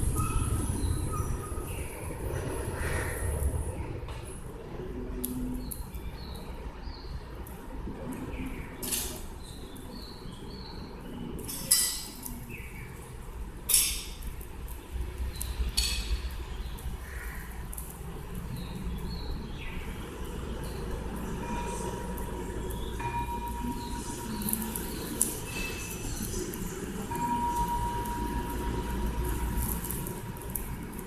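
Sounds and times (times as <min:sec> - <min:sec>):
small birds chirping: 0:05.2 - 0:31.0.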